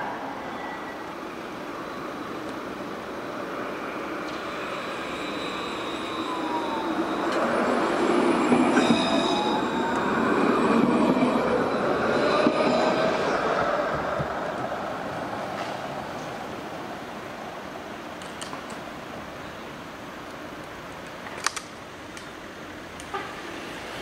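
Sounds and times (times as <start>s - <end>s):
tram wheels on rail: 0.0s - 24.0s.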